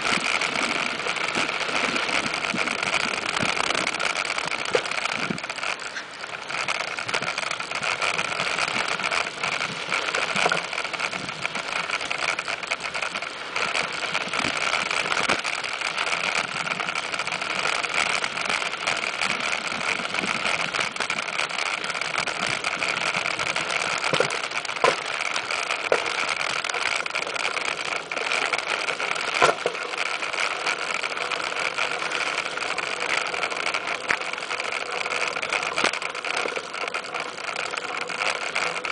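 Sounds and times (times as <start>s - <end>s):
bicycle rolling and drivetrain noise: 0.0s - 38.9s
knocks and rattles from bumps: 0.0s - 38.9s.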